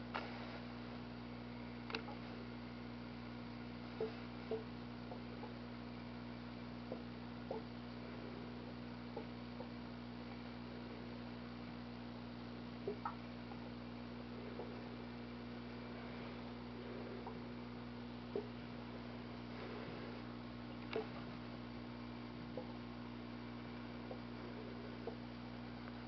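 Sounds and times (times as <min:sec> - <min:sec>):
aquarium equipment humming: 0:00.0 - 0:26.0.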